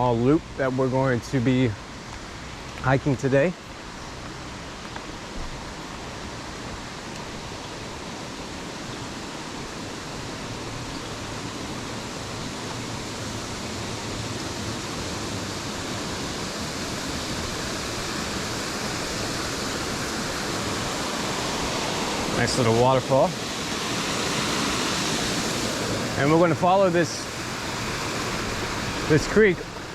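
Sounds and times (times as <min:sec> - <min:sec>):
creek and small waterfall rushing: 0:00.0 - 0:29.9.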